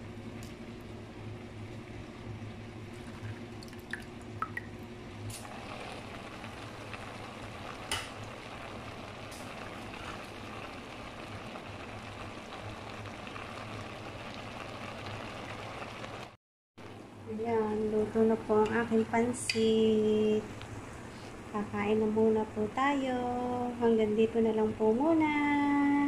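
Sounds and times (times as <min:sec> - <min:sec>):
pot simmering with bubbling hiss: 0:00.1 - 0:26.0.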